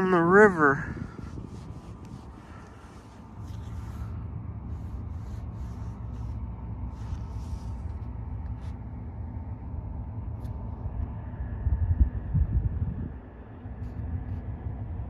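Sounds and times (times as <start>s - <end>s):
faint steady hum: 0.0s - 15.0s
ship engine rumble: 0.0s - 15.0s.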